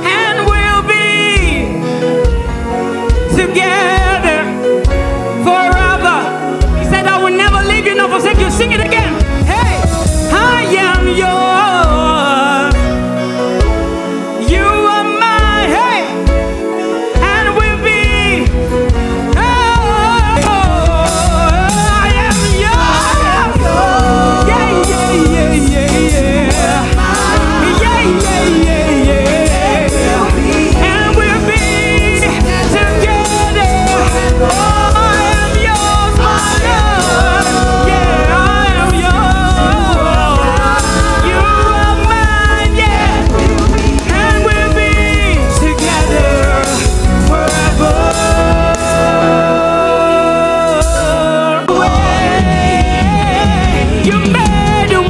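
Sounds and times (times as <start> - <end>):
gospel band playing: 0.0 - 55.0
people singing: 0.0 - 55.0
bass and drums: 6.6 - 13.8, 17.2 - 55.0.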